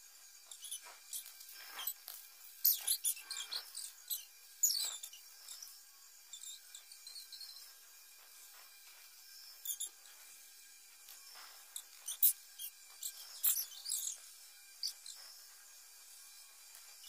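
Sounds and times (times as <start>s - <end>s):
pencil scratching on paper: 0.4s - 7.7s, 8.3s - 10.4s, 11.2s - 15.5s.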